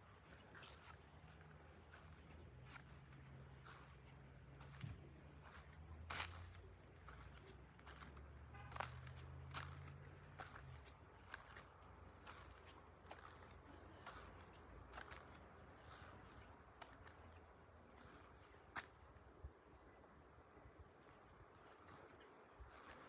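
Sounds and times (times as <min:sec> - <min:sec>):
high-pitched insect chorus: 0:00.0 - 0:23.0
footsteps of person walking: 0:00.1 - 0:17.4, 0:21.3 - 0:23.0.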